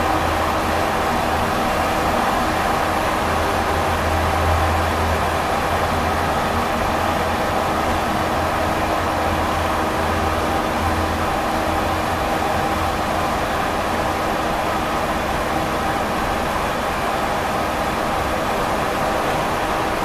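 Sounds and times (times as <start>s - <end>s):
constant rushing noise: 0.0s - 20.0s.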